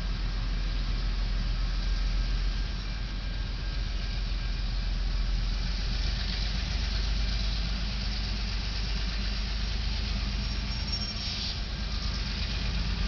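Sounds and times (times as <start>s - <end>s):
locomotive engine rumbling: 0.0s - 13.0s
street traffic hiss: 0.0s - 13.0s.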